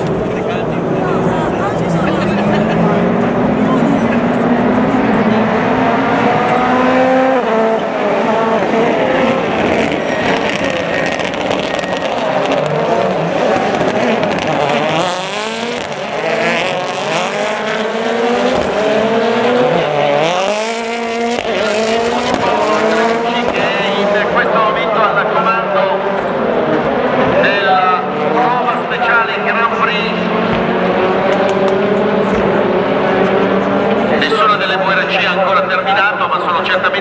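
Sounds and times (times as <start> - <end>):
rally cars revving past: 0.0 - 37.0.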